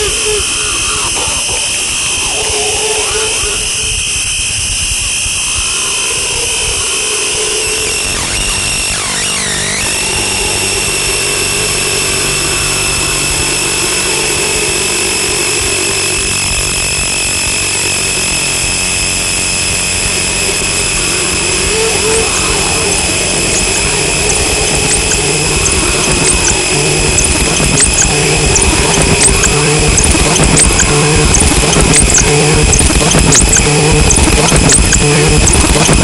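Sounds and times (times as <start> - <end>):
high whistling tones: 0.0 - 17.0, 19.9 - 36.0
wavering pitch sweep: 0.0 - 18.2, 18.8 - 36.0
dense wall of noise: 0.0 - 36.0
pulsing low layer: 0.0 - 36.0.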